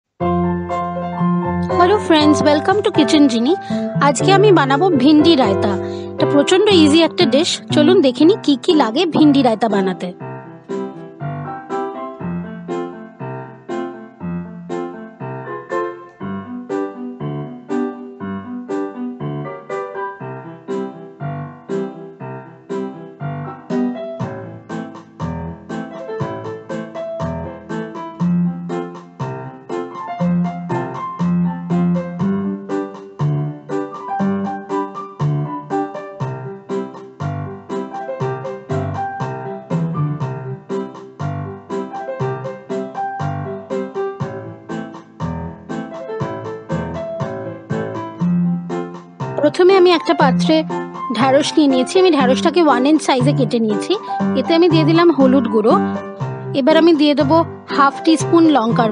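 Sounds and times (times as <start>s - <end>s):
piano music: 0.1s - 58.9s.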